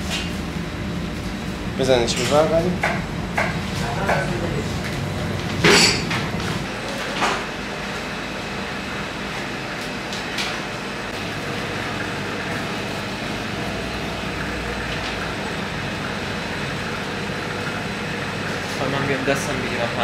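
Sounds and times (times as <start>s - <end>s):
machine motor humming: 0.5s - 20.0s.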